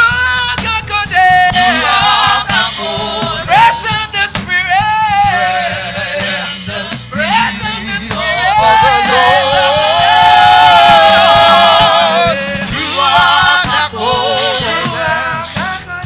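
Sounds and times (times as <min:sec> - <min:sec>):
gospel singing: 0:00.0 - 0:16.0
low instrumental accompaniment: 0:01.4 - 0:15.9.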